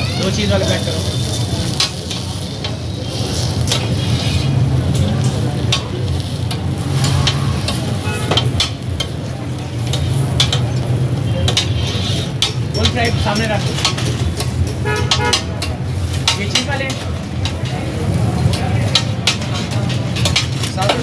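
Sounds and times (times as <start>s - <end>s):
food sizzling on a griddle: 0.0s - 21.0s.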